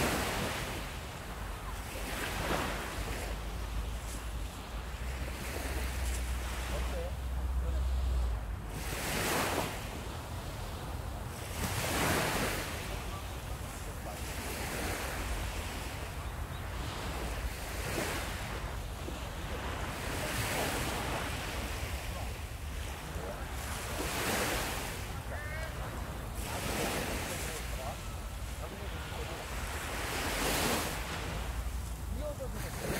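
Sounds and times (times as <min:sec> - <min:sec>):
surf washing onto beach: 0:00.0 - 0:32.9.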